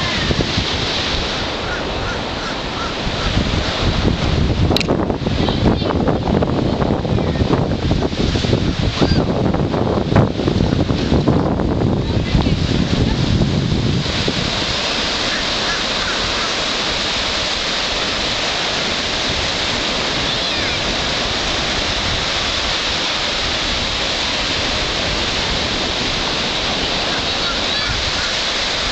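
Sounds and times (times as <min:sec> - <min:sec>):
surf washing onto beach: 0:00.0 - 0:28.9
wind buffeting microphone: 0:00.0 - 0:28.9.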